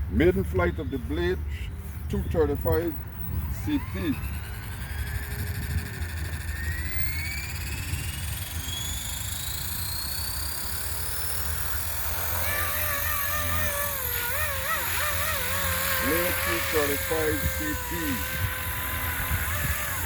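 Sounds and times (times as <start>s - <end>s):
rc helicopter rotor whine: 0.2s - 20.0s.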